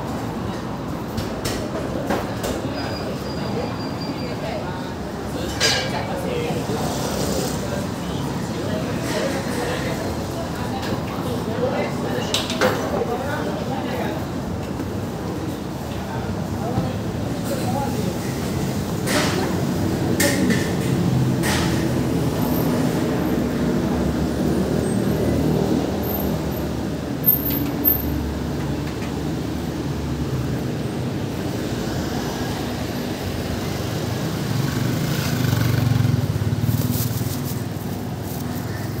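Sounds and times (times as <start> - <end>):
vehicle engines rumbling: 0.0 - 39.0.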